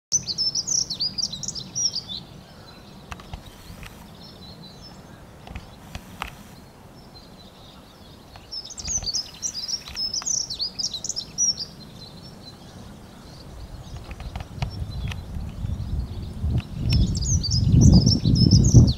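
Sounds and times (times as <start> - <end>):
bird singing jingling warbles: 0.2 - 18.9.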